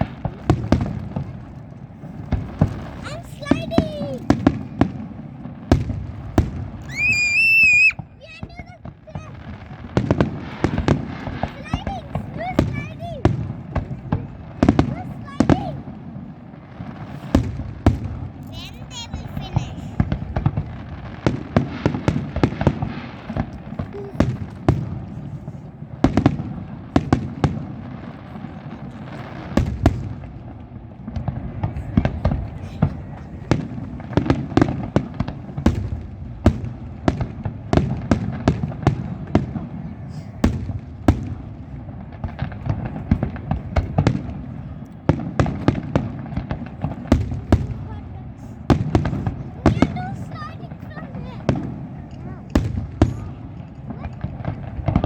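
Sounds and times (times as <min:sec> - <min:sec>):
fireworks bursting in sharp bangs: 0:00.0 - 0:55.0.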